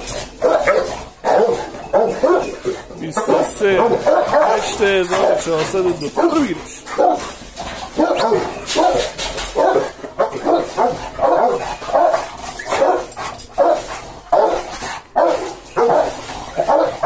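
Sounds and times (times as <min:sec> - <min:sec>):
dog barking: 0:00.1 - 0:17.0.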